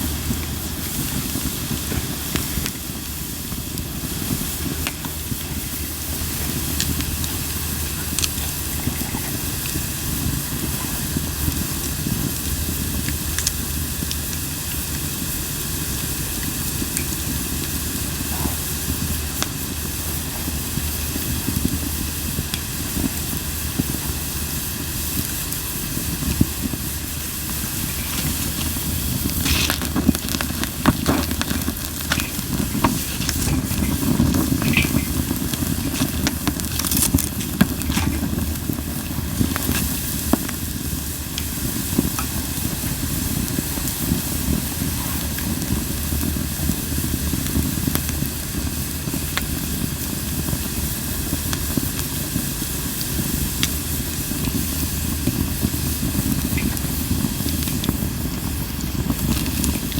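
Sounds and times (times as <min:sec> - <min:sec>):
campfire crackling and popping: 0:00.0 - 0:59.9
low rush of flames: 0:00.0 - 0:59.9.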